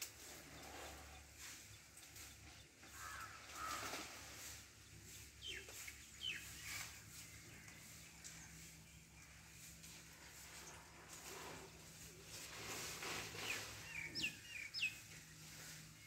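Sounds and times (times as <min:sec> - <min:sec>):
rustling of leaves and branches: 0:00.0 - 0:16.0.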